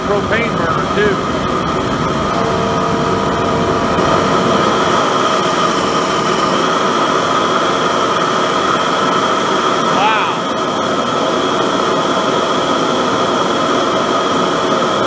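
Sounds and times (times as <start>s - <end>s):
forge burner roaring: 0.0s - 15.0s.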